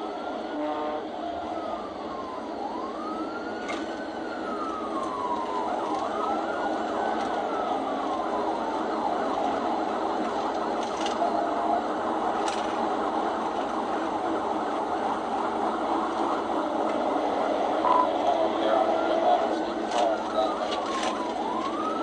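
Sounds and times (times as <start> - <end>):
police siren wailing: 0.0 - 22.0
road noise: 0.0 - 22.0.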